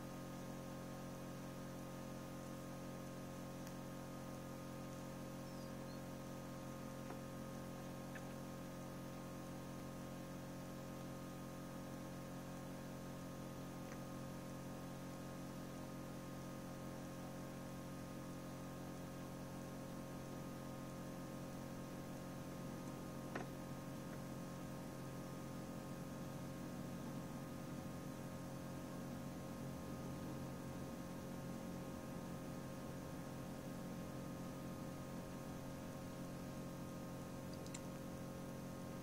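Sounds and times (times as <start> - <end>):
incubator mechanical hum: 0.0 - 39.0.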